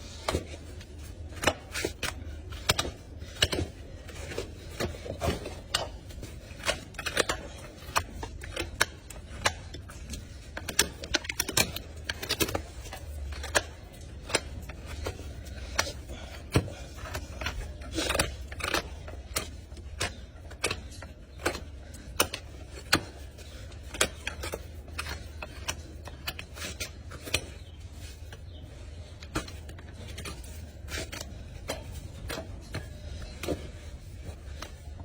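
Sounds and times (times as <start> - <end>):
steady low hum: 0.0 - 35.0
tools clicking and snipping hoof: 0.0 - 35.0.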